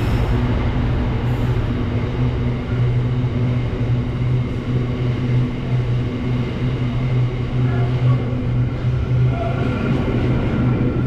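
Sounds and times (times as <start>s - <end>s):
locomotive diesel engine droning: 0.0s - 11.0s.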